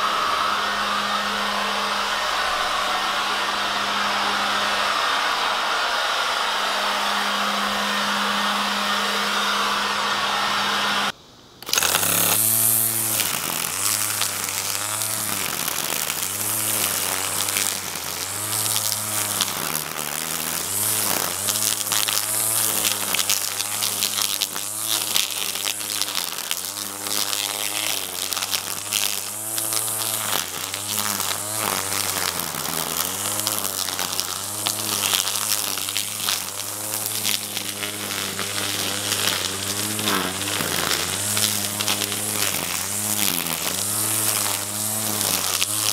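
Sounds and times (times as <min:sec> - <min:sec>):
leaf blower running: 0:00.0 - 0:45.9
string trimmer cutting grass: 0:00.0 - 0:45.9.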